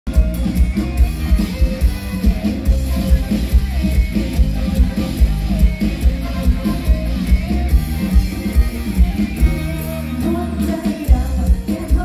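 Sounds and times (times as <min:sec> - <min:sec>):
live band music over pa: 0:00.1 - 0:12.0.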